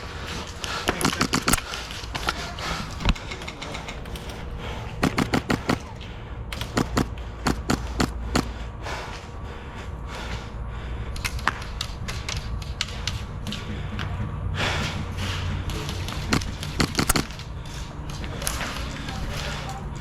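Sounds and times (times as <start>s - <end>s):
airsoft guns firing: 0.0s - 8.7s, 11.2s - 20.0s.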